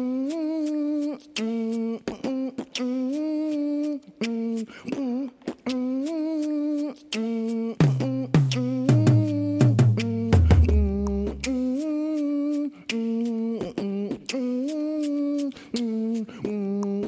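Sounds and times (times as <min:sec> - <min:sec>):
wordless vocal-like melody: 0:00.0 - 0:17.0.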